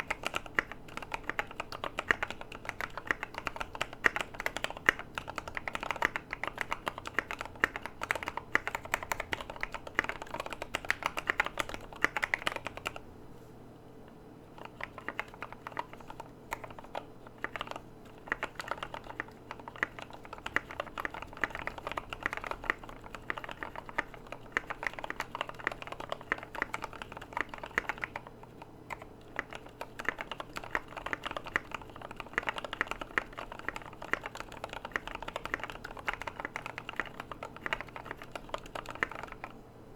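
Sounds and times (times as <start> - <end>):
fast typing on mechanical keyboard: 0.0 - 13.0, 14.6 - 39.6.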